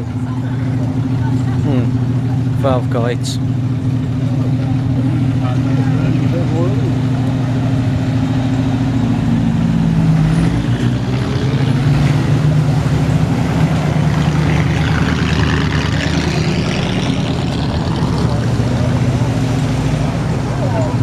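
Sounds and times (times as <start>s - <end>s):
old car engines driving past: 0.0s - 21.0s.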